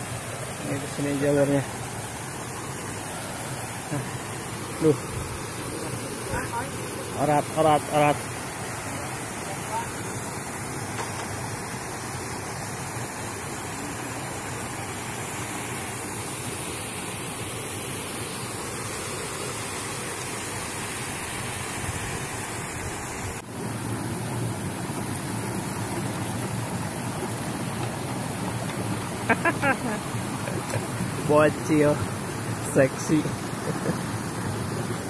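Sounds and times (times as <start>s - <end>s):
stream flowing over rock: 0.0s - 35.0s.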